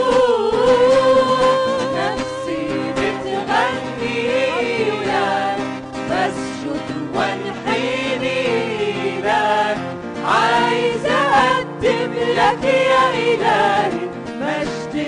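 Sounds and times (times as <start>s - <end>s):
instrumental backing: 0.0s - 15.0s
person singing a hymn: 0.0s - 15.0s.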